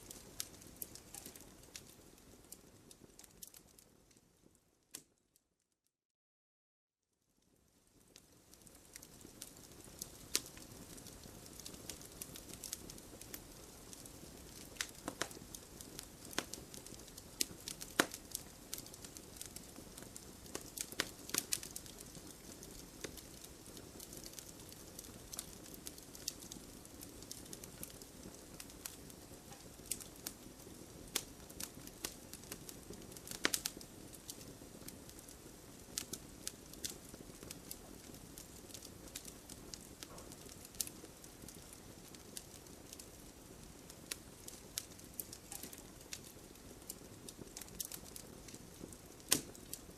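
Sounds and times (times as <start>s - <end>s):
campfire crackling and popping: 0.0s - 5.1s, 7.5s - 49.9s.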